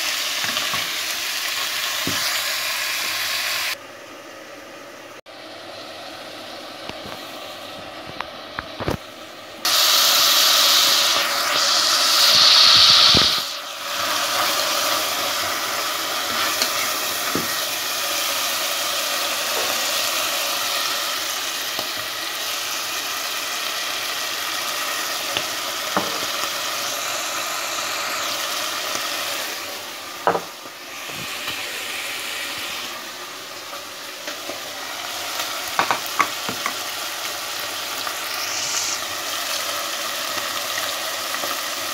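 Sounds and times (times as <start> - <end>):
meat sizzling in a pot: 0.0 - 4.4, 5.4 - 41.9.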